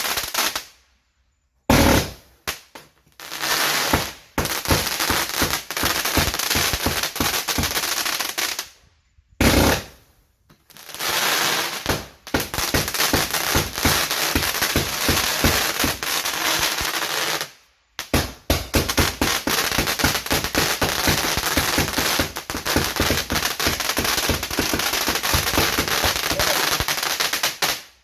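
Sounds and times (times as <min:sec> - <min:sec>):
fireworks cracking and popping: 0:00.0 - 0:00.9, 0:01.7 - 0:08.8, 0:09.4 - 0:28.0.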